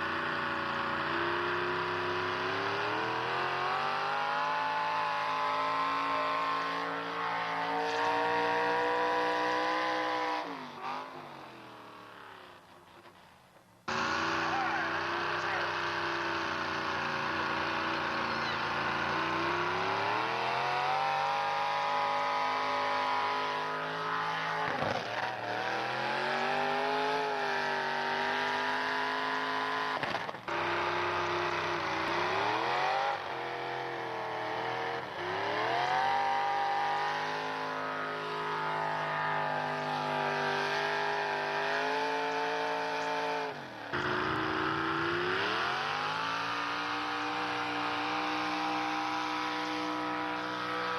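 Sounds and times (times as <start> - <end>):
truck engine at high revs: 0.0 - 50.9.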